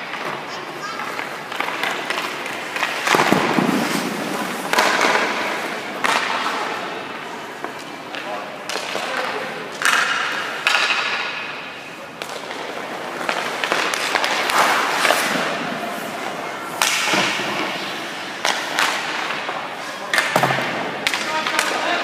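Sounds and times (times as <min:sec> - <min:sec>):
hockey stick striking puck: 0:00.0 - 0:22.0
puck hitting goalie pads: 0:00.0 - 0:22.0
skates scraping ice: 0:00.0 - 0:22.0.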